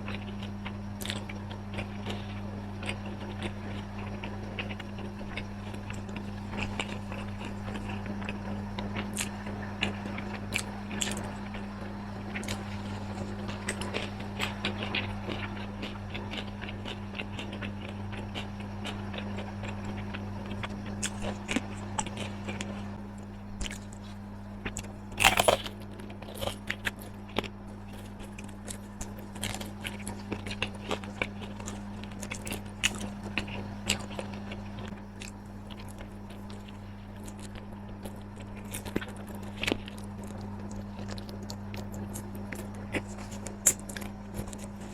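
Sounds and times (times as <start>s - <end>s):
person chewing crunchy food: 0.0s - 11.3s, 12.3s - 44.9s
steady low hum: 0.0s - 44.9s.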